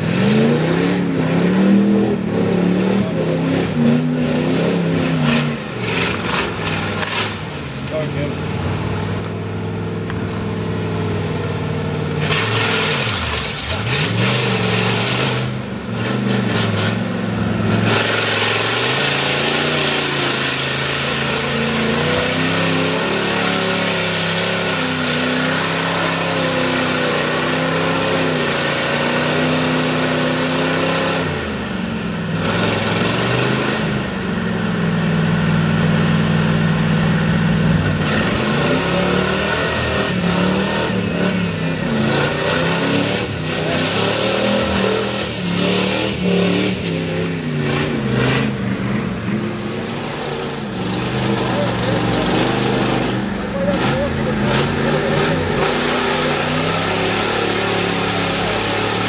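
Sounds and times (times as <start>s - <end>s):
truck engine revving hard: 0.0s - 59.0s.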